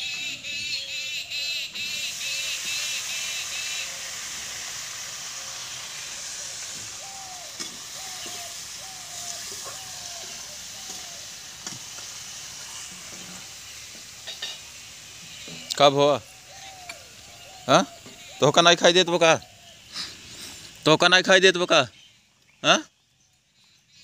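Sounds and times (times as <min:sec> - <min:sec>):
birds chirping: 0:00.0 - 0:04.2, 0:05.4 - 0:24.0
short falling bird calls: 0:00.0 - 0:13.9, 0:15.1 - 0:20.8
steady high hiss: 0:00.0 - 0:22.8.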